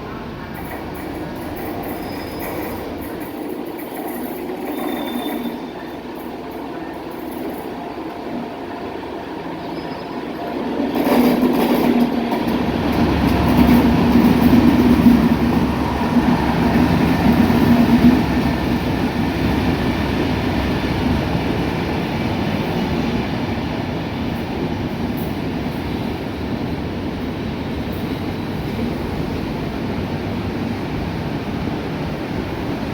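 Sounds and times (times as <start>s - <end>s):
train passing: 0.0s - 32.9s.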